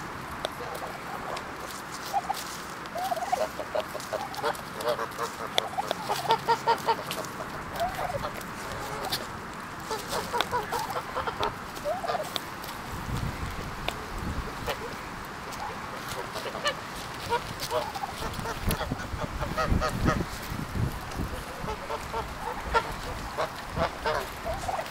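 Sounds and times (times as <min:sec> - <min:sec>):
turkeys clucking and calling: 0:00.0 - 0:24.9.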